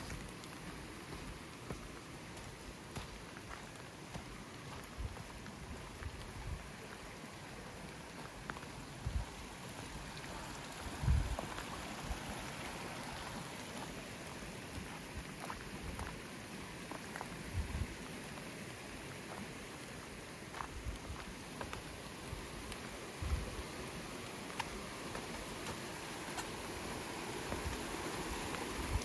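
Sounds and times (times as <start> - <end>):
creek running water: 0.0 - 29.0
footsteps on wet leaves: 0.0 - 29.0
light rain hissing: 0.0 - 29.0.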